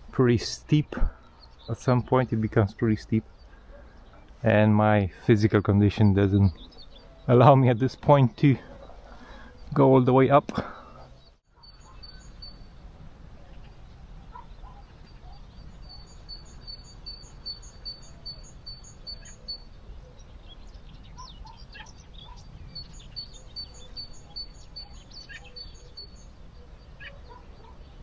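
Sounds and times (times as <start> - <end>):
other birds chirping: 0.0 - 28.0
songbird singing repeated notes: 0.0 - 28.0.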